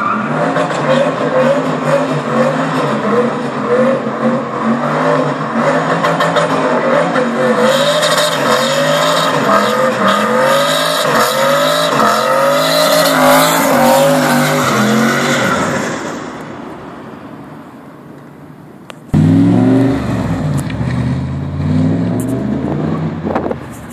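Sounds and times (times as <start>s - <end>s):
car engine revving: 0.2s - 16.5s, 19.1s - 23.8s.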